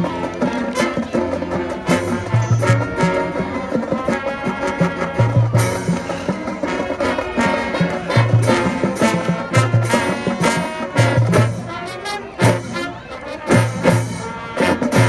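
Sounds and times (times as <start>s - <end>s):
drumline percussion: 0.0s - 15.0s
marching band brass chords: 0.0s - 15.0s.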